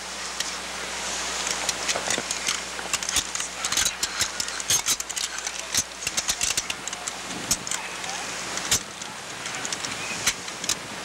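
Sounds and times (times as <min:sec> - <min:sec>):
recording hiss: 0:00.0 - 0:11.0
rifles clicking and knocking: 0:01.4 - 0:10.8.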